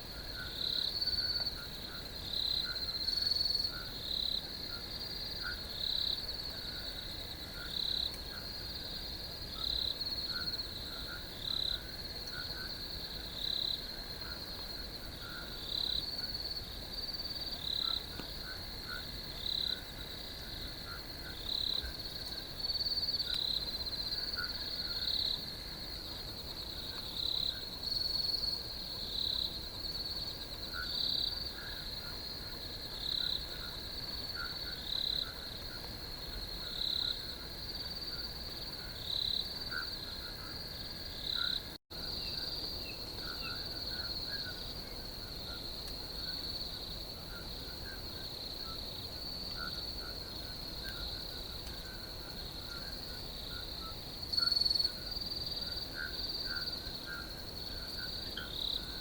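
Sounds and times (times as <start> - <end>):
crickets trilling: 0.0 - 59.0
louder cricket chirp: 0.0 - 59.0.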